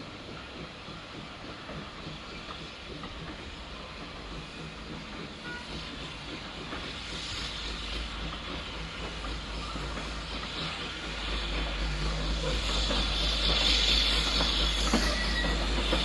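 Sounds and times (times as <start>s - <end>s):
steam locomotive exhaust: 0.0s - 16.0s
train rumble: 0.0s - 16.0s.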